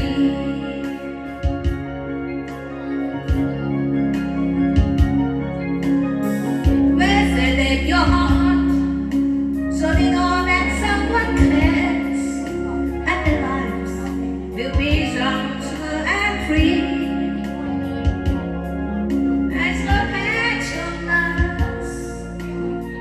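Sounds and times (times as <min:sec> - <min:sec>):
person singing: 0:00.0 - 0:03.5, 0:06.2 - 0:23.0
electronic organ chords: 0:00.0 - 0:23.0.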